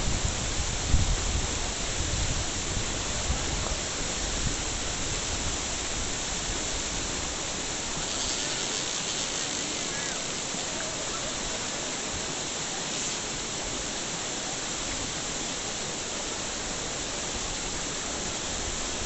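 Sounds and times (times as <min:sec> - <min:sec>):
steady outdoor rushing noise: 0:00.0 - 0:19.0.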